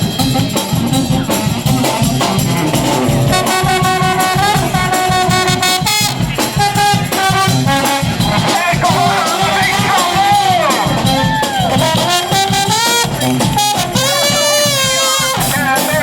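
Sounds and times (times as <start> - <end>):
brass horns in harmony: 0.0 - 16.0
drum strikes: 0.0 - 16.0.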